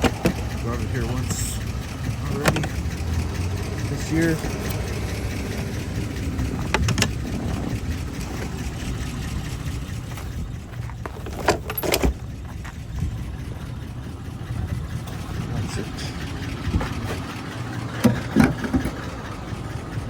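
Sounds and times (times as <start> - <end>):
van engine rumbling: 0.0 - 20.0.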